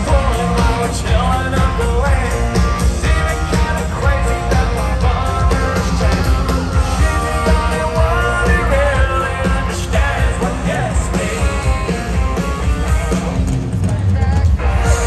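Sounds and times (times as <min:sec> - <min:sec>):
live country band: 0:00.0 - 0:15.0
man singing lead vocal: 0:00.0 - 0:15.0.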